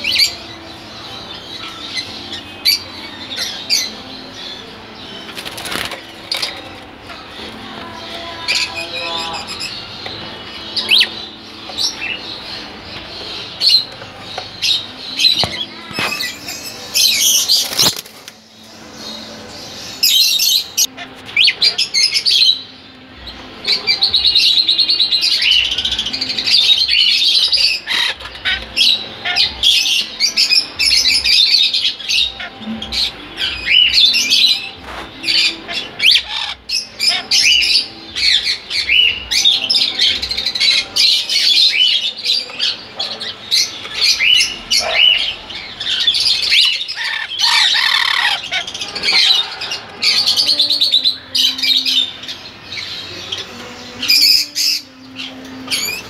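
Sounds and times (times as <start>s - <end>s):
parrots chirping and squawking: 0.0s - 56.0s.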